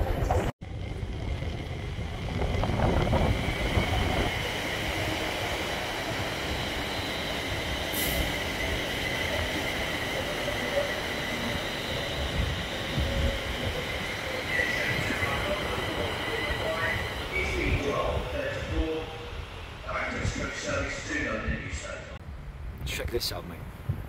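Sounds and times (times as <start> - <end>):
wheels rumbling on rail: 0.0 - 22.7
high steady train whine: 0.0 - 22.8.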